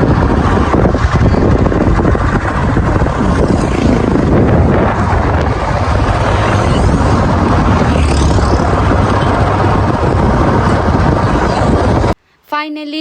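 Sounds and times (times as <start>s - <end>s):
road noise: 0.0s - 12.2s
vehicle engine: 0.0s - 12.2s
wind rumble on microphone: 0.0s - 12.2s.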